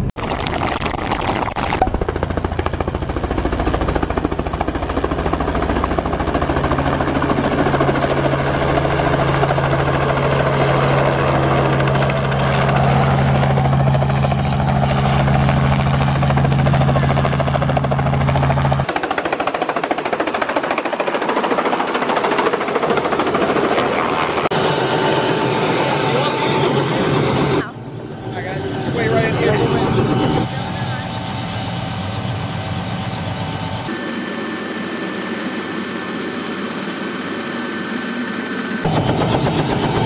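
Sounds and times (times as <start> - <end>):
helicopter low hum: 0.0 - 40.0
helicopter rotor chopping: 0.0 - 40.0.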